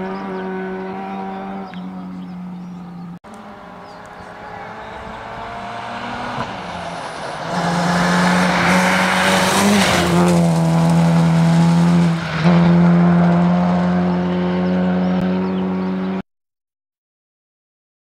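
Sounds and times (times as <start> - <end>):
rally car engine at high revs: 0.0 - 16.2.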